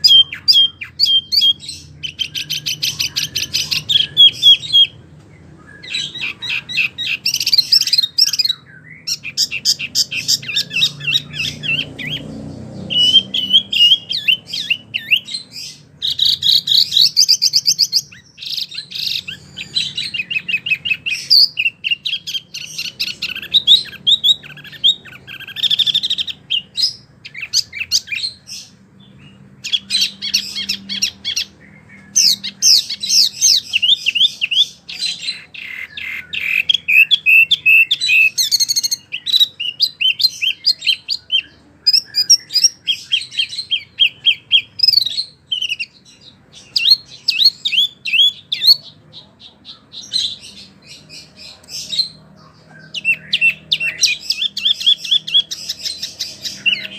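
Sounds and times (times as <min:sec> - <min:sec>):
songbird chirps and trills: 0:00.0 - 0:56.9.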